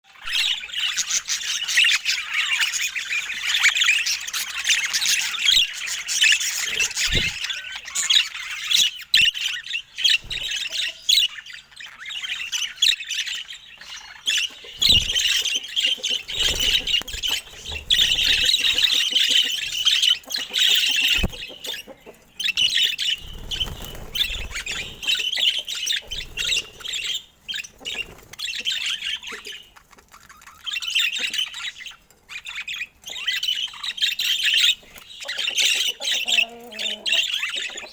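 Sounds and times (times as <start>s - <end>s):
budgerigars chattering: 0.1s - 37.9s.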